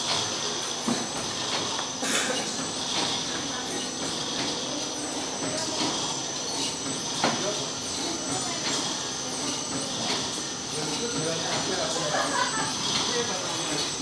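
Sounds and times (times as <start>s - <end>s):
bag sealing machine running: 0.0s - 14.0s
high machine whine: 0.0s - 14.0s.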